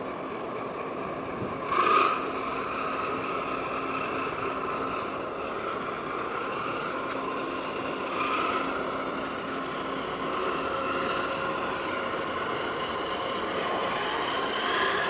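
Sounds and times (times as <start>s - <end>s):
ship engine drone and whine: 0.0s - 15.0s.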